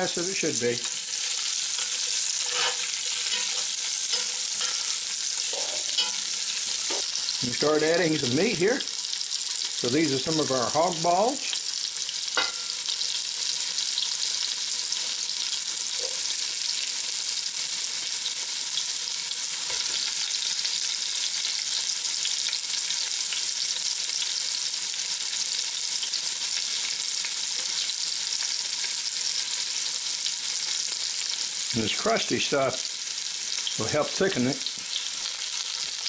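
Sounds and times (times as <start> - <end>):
food sizzling in hot oil: 0.0 - 36.0.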